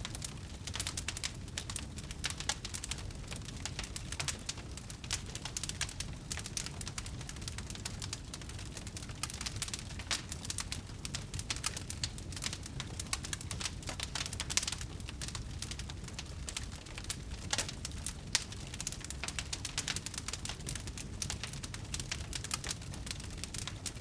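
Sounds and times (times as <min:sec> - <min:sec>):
low steady fire rumble: 0:00.0 - 0:24.0
wood fire crackling: 0:00.0 - 0:24.0.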